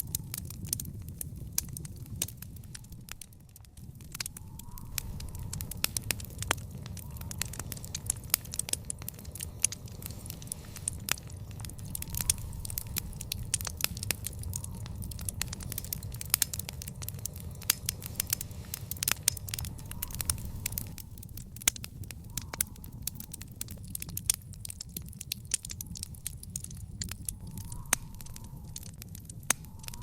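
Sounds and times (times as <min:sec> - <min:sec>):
low steady rumble: 0:00.0 - 0:30.0
wood fire crackling and popping: 0:00.0 - 0:30.0.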